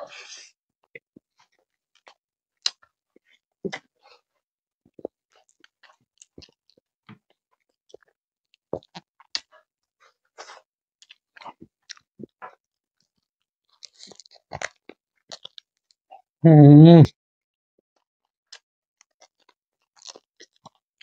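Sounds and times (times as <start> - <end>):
close-up chewing food: 0.9 - 4.3, 4.9 - 16.3, 18.5 - 20.8.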